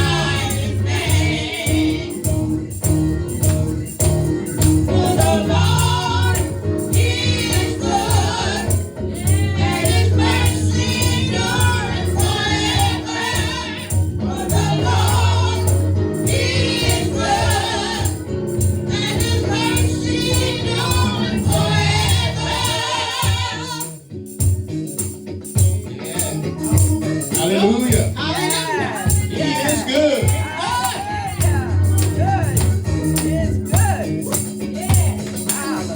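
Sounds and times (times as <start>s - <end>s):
group singing gospel: 0.0s - 35.9s
tambourine shaking: 0.0s - 35.9s.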